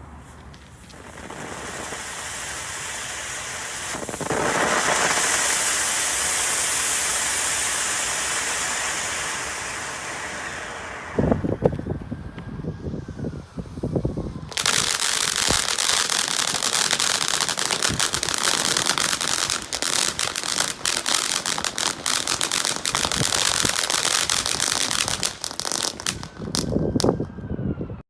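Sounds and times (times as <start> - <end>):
firework crackling: 0.0 - 27.3.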